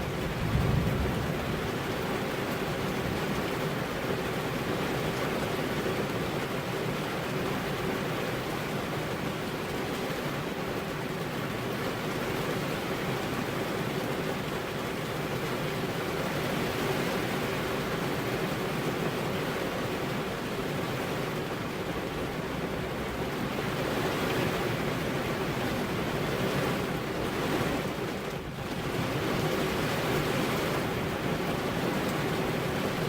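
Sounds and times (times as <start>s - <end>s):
rain on car window glass: 0.0s - 33.0s.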